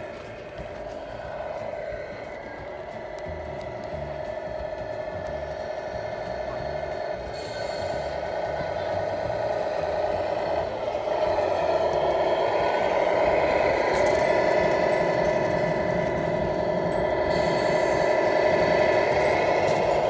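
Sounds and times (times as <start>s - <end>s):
toy truck motor hum: 0.0s - 20.0s.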